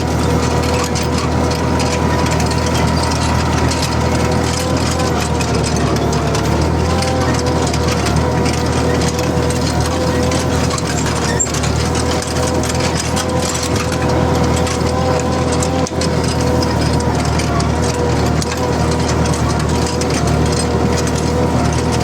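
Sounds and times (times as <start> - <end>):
steady whine: 0.0 - 22.0
tractor diesel engine running: 0.0 - 22.0.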